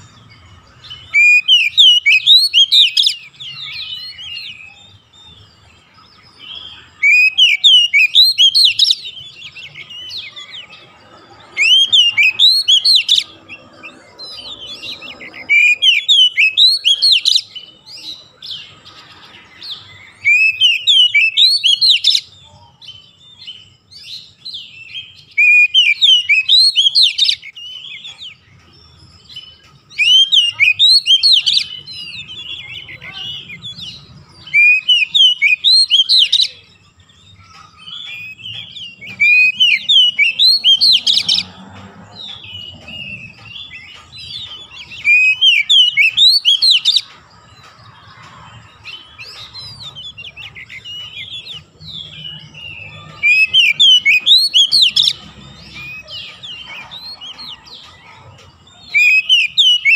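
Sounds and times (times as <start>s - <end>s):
bird whistling song: 0.0s - 59.9s.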